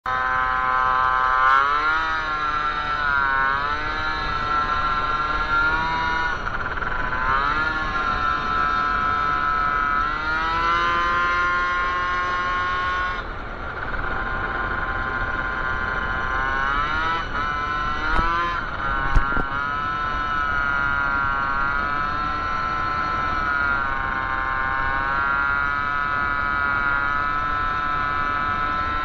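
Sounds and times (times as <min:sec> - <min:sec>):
moped two-stroke engine running: 0:00.0 - 0:29.0.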